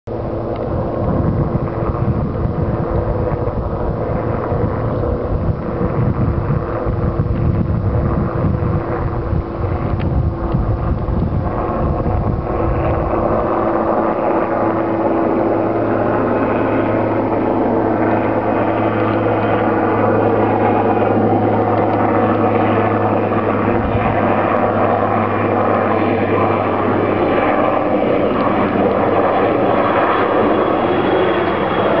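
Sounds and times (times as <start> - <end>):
distant helicopter engine and rotor: 0.1 - 32.0
wind rumbling on microphone: 0.1 - 32.0.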